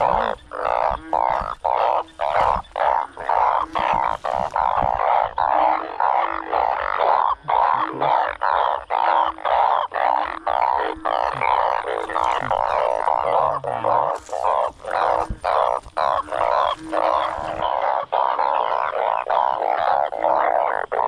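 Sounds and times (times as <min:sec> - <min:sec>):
frogs calling in chorus: 0:00.0 - 0:21.0
low frog notes: 0:00.0 - 0:21.0.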